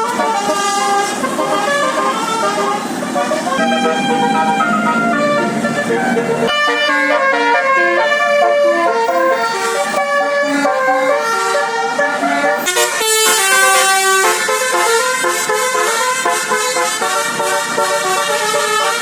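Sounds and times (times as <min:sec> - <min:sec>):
bus horn playing melody: 0:00.0 - 0:19.0.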